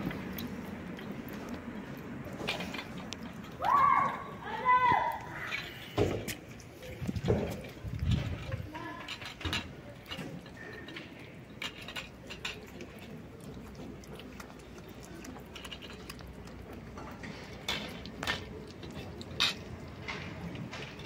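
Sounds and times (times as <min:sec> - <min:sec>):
cats chewing wet food: 0:00.0 - 0:21.0.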